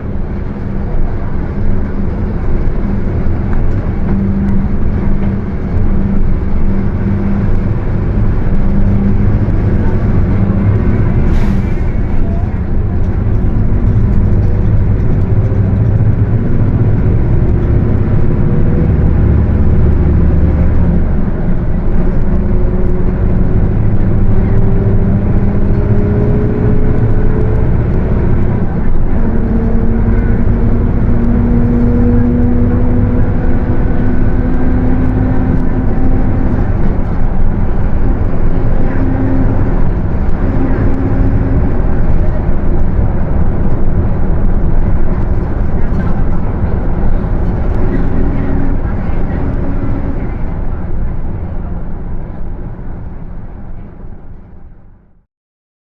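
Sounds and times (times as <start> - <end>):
differential whine: 0.0 - 11.2, 11.8 - 53.2
bus diesel engine drone: 0.0 - 55.2.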